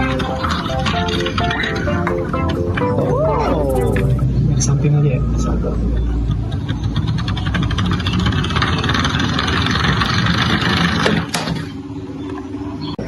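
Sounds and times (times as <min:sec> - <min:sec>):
engine with pulsing beat: 0:00.0 - 0:12.0.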